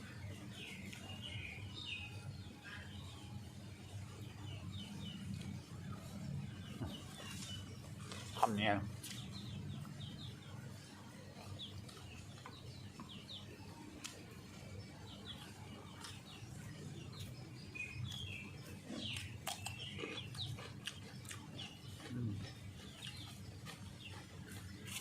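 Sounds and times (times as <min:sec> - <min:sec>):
low background hum: 0:00.0 - 0:25.0
small birds chirping: 0:00.0 - 0:25.0.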